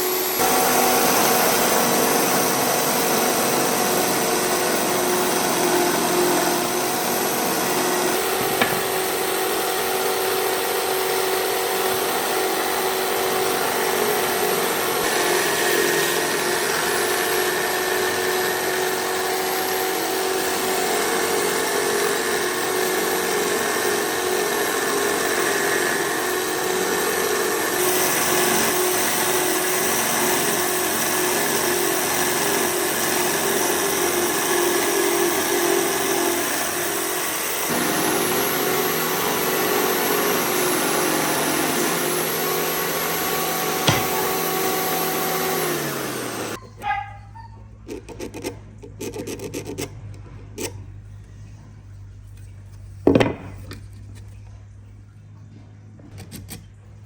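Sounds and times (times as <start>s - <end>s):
power tool sanding wood: 0.0s - 46.6s.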